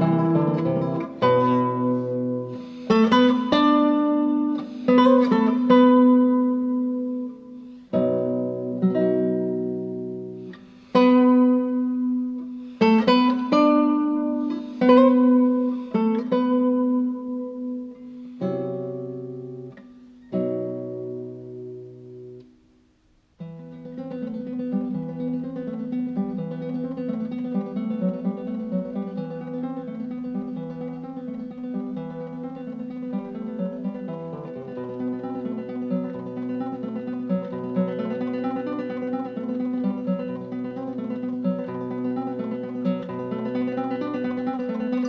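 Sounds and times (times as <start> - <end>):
acoustic guitar music: 0.0 - 45.0.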